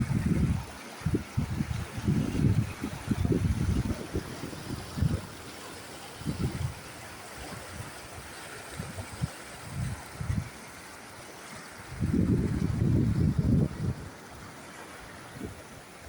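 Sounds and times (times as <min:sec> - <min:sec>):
wind buffeting microphone: 0:00.0 - 0:05.5, 0:06.2 - 0:10.6, 0:11.8 - 0:14.3, 0:15.2 - 0:16.0
stream running water: 0:00.0 - 0:16.0.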